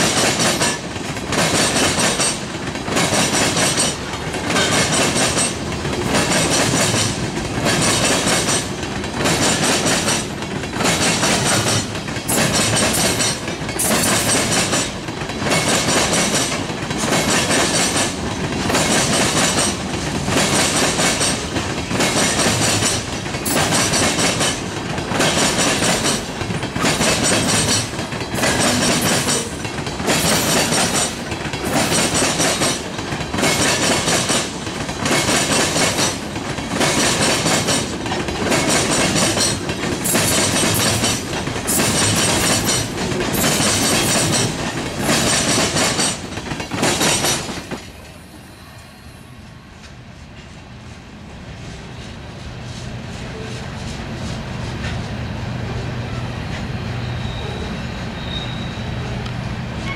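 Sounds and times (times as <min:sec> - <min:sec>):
wheels clattering on rails: 0:00.0 - 0:48.3.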